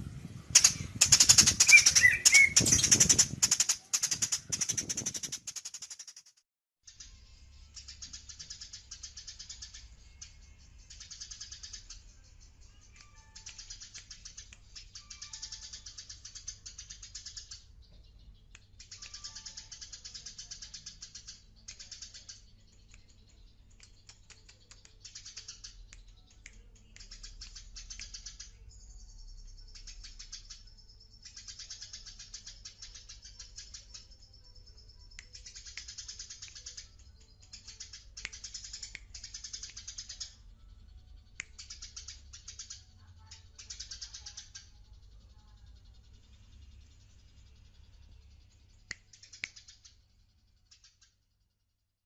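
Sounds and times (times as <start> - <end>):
sparrow chirping: 0.4 - 6.2, 6.9 - 51.3.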